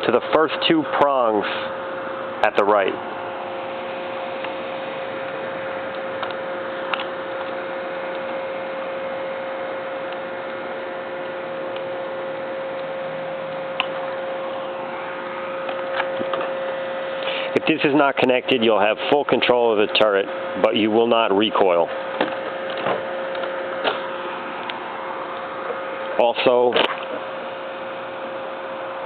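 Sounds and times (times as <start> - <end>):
mid-pitched hum: 0.0 - 29.0.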